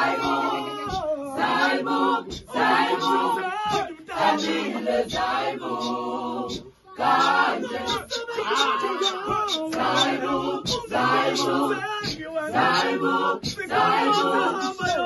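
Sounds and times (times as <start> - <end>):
choir singing unaccompanied: 0.0 - 15.0.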